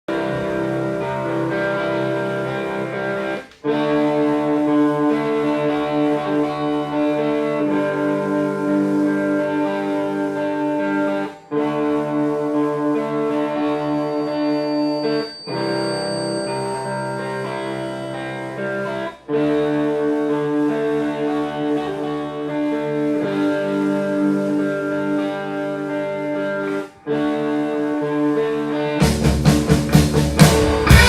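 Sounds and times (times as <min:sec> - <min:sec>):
instrumental music with held notes: 0:00.1 - 0:31.0.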